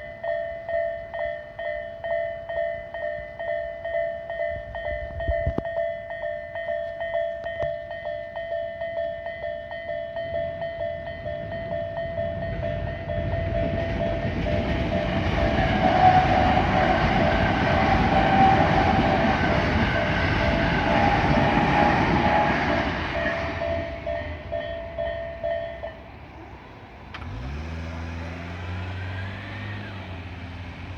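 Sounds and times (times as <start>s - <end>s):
level-crossing warning bell: 0.0s - 27.4s
train passing: 0.0s - 30.9s.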